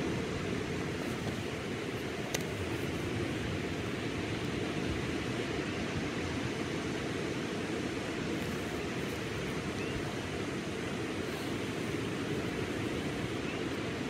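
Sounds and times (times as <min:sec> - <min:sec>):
ocean waves on sandy beach: 0:00.0 - 0:14.0.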